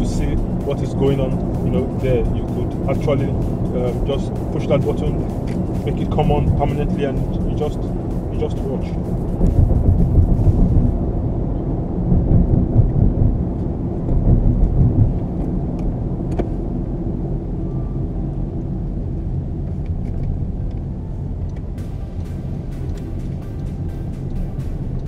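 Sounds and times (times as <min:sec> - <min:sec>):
car cabin rumble of tyres and engine: 0:00.0 - 0:25.0.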